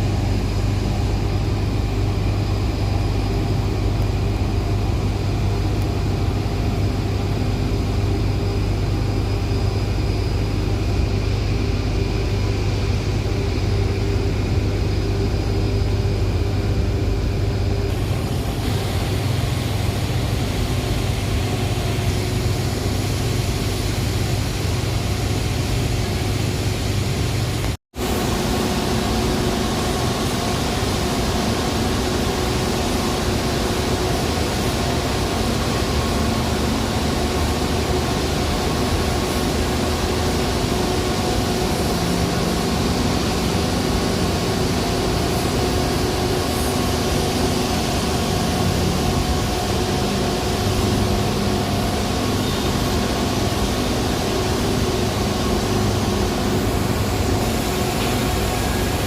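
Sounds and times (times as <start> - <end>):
power plant machinery drone: 0.0 - 59.0.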